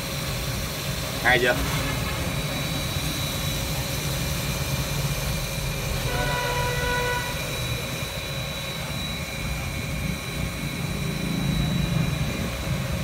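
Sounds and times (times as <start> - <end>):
pump motor hum with whine: 0.0 - 13.0.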